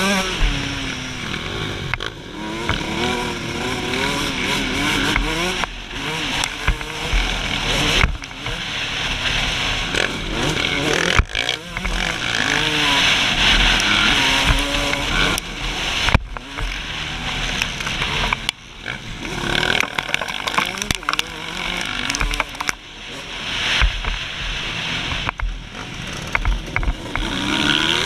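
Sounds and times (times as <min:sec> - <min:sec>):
two-stroke motorcycle engine revving: 0:00.0 - 0:28.0.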